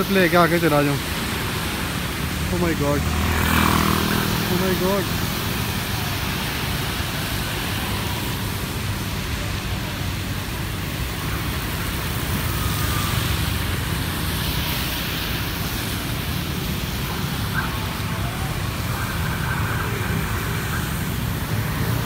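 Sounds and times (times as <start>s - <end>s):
scooters and cars passing: 0.0s - 22.0s
tyres hissing on wet road: 0.0s - 22.0s.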